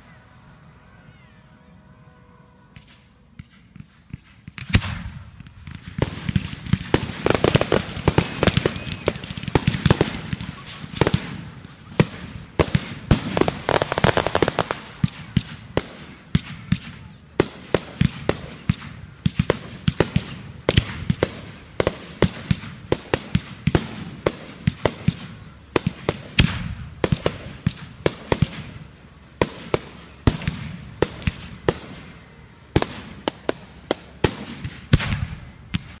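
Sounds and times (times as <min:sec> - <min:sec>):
fireworks bangs and cracks: 0:02.8 - 0:36.0.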